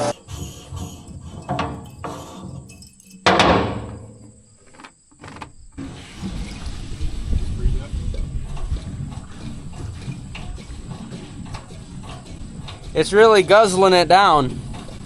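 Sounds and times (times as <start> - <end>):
hard objects knocking and clunking: 0.2 - 5.8, 7.9 - 15.0.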